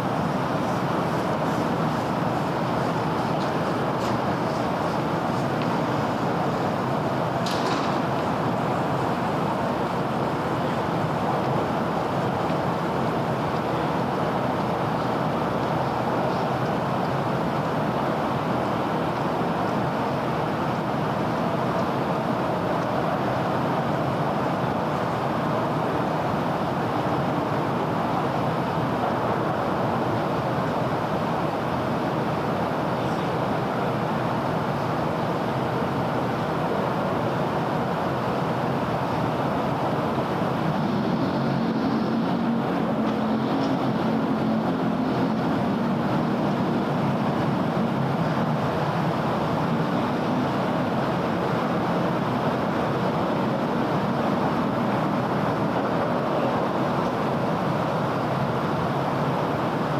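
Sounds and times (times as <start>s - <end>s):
heavy vehicle engine drone: 0.0s - 59.9s
road traffic noise: 0.0s - 59.9s
vehicles passing: 0.0s - 59.9s.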